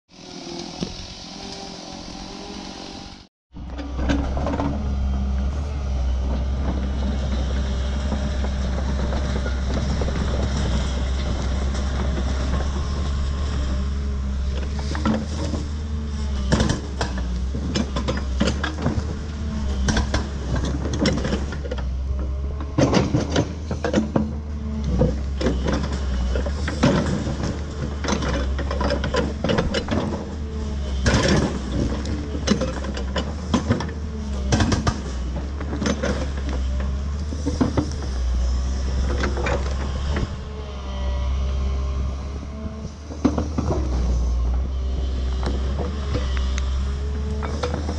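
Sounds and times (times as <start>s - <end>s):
excavator diesel engine running: 0.1s - 47.9s
hydraulic whine: 0.1s - 47.9s.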